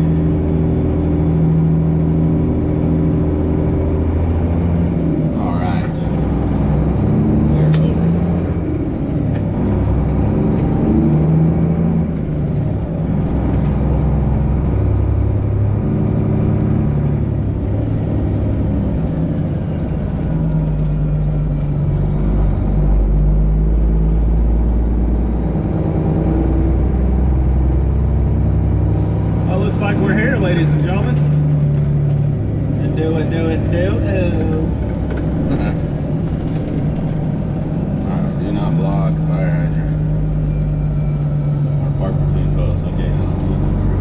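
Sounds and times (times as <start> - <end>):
truck diesel engine droning: 0.0 - 44.0.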